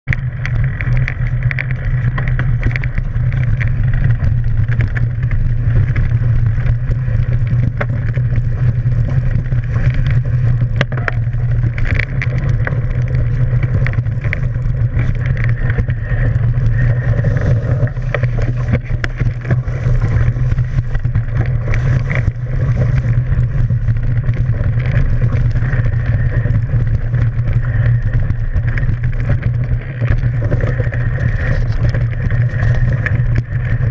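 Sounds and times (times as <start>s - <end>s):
wind rumble: 0.0s - 33.9s
bike rattles and knocks: 0.1s - 33.9s
tyre running over dirt and leaves: 0.2s - 33.9s.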